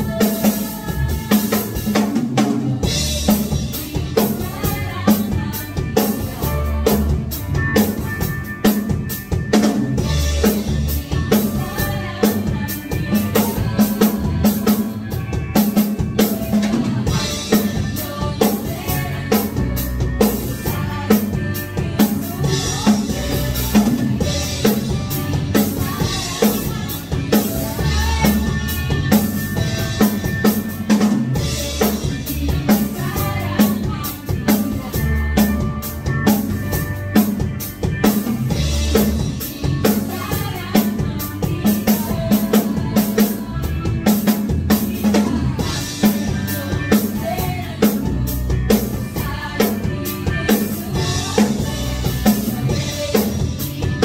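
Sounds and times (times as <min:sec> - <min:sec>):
drum kit beat: 0:00.0 - 0:54.0
live band playing worship song: 0:00.0 - 0:54.0.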